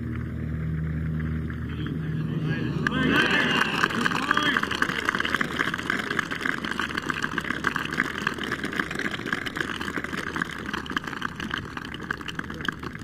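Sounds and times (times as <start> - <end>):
crowd applauding: 1.6 - 13.0.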